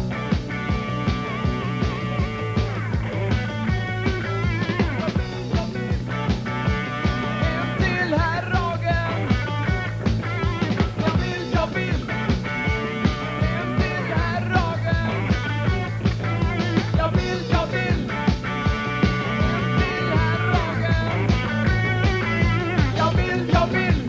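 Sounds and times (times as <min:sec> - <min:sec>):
drum kit beat: 0:00.0 - 0:24.0
electric guitar: 0:00.0 - 0:24.0
man singing lead: 0:04.6 - 0:24.0.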